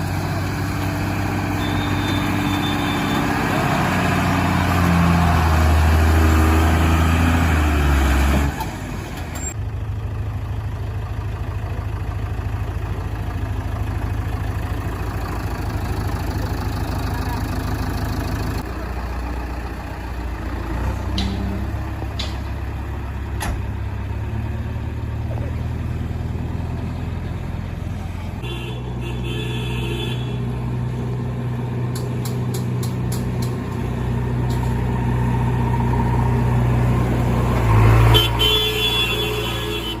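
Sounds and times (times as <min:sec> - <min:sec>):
diesel machinery engine running: 0:00.0 - 0:40.0.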